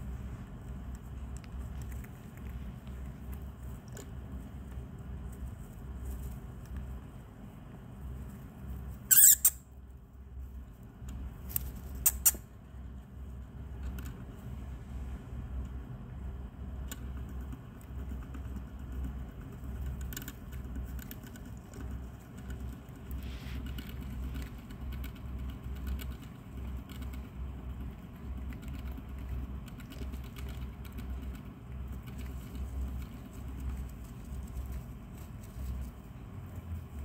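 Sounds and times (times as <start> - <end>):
hamster crunching food: 0.0 - 14.6, 15.3 - 37.0.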